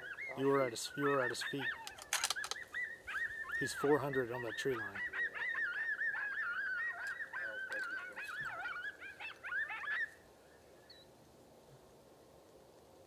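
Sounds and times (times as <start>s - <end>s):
coyotes yipping and howling: 0.0s - 11.1s.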